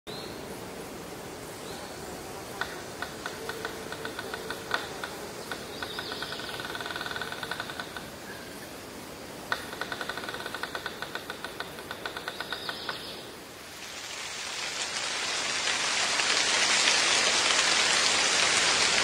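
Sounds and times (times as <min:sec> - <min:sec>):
steady background hiss: 0:00.1 - 0:19.0.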